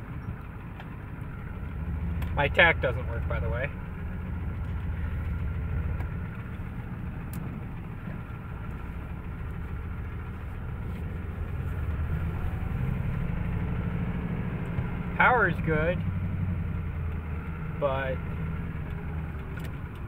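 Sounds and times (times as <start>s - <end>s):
diesel engine pulling away: 0.0s - 20.0s
engine ticking: 0.0s - 20.0s.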